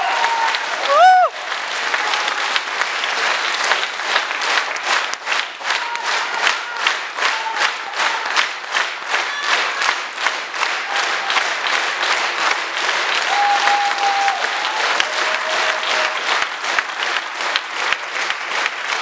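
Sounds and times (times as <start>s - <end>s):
audience clapping in rhythm: 0.0s - 19.0s.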